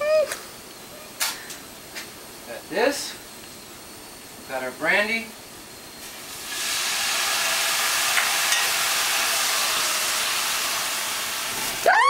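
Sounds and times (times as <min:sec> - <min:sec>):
brandy sizzling in a hot skillet: 0:01.8 - 0:12.0.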